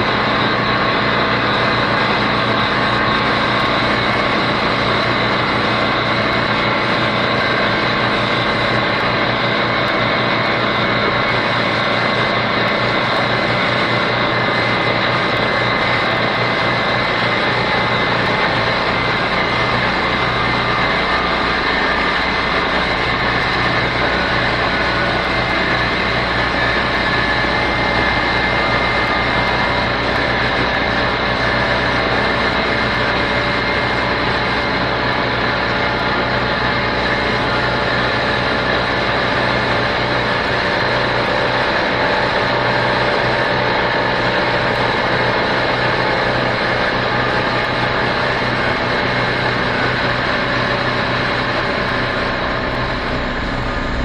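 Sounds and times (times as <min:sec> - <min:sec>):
machine drone: 0:00.0 - 0:54.0.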